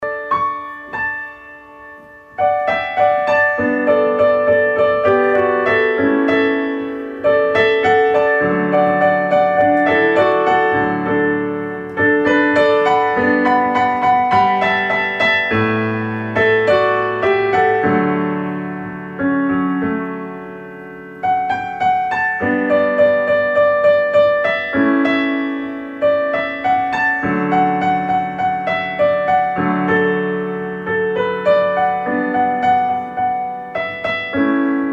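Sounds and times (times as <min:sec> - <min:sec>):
gentle solo piano: 0:00.0 - 0:34.9.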